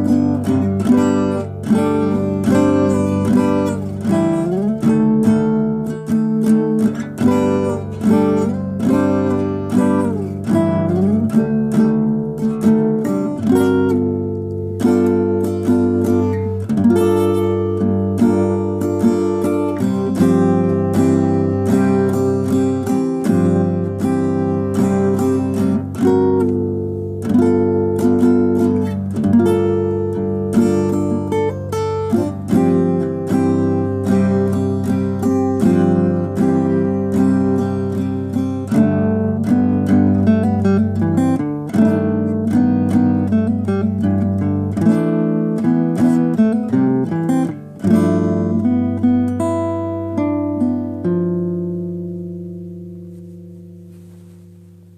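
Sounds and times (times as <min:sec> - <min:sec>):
acoustic guitar playing: 0:00.0 - 0:54.9.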